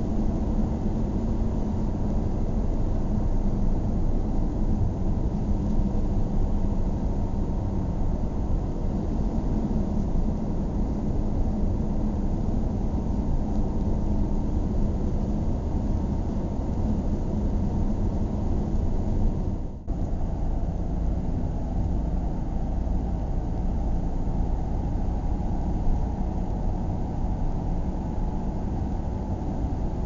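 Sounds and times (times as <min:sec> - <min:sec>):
car cabin road drone: 0:00.0 - 0:30.0.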